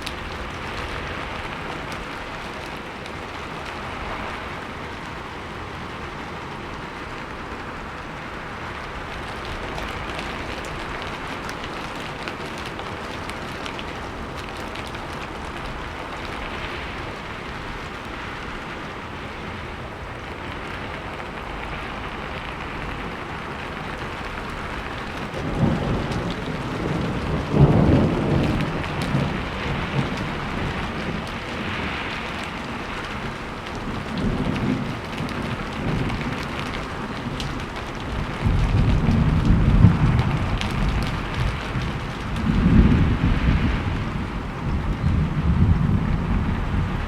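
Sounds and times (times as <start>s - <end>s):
rain falling: 0.0s - 47.0s
thunder rumbling: 0.0s - 47.0s.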